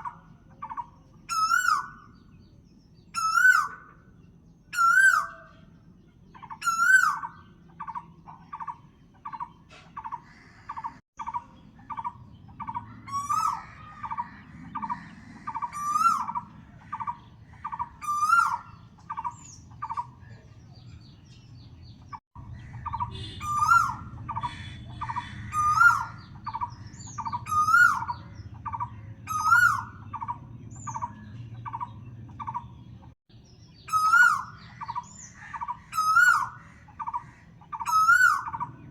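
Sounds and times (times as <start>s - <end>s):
bird wavering call: 0.0s - 2.2s, 3.1s - 4.0s, 4.7s - 5.7s, 6.4s - 20.2s, 22.7s - 32.7s, 33.7s - 38.9s.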